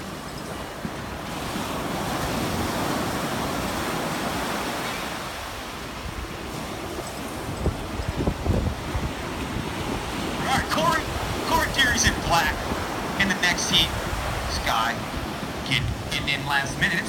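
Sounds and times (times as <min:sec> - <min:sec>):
wind buffeting microphone: 0:00.0 - 0:13.2, 0:13.8 - 0:17.0
ocean surf breaking: 0:00.0 - 0:17.0.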